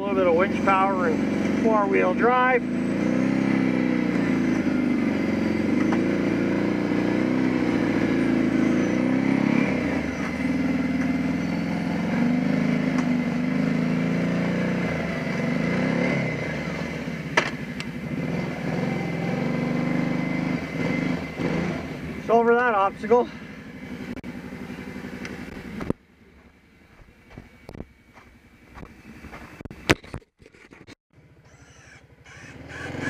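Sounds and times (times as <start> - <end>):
quad engine at low revs: 0.0 - 33.0.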